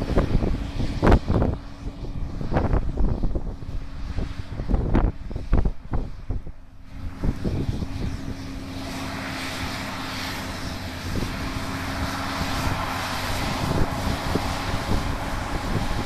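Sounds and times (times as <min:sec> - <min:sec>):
wind thumps on microphone: 0:00.0 - 0:08.6, 0:11.1 - 0:16.0
tractor diesel engine running: 0:00.0 - 0:16.0.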